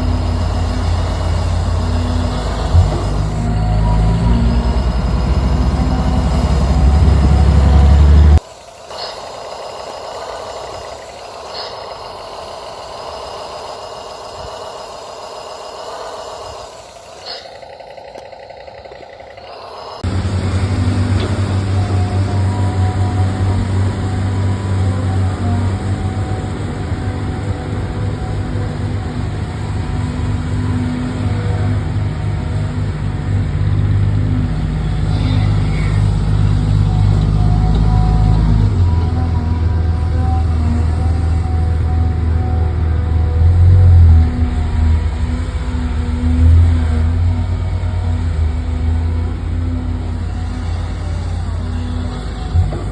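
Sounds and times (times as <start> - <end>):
electric motor and gearbox whirring: 0.0 - 52.9
truck engine running: 0.0 - 52.9.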